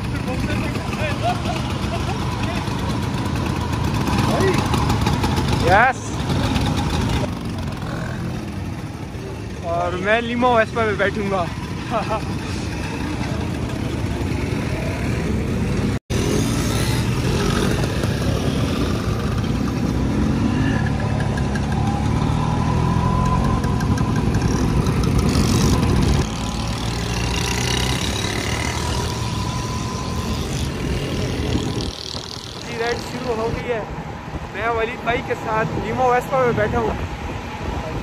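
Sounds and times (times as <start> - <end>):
scooter engines running: 0.0 - 38.0.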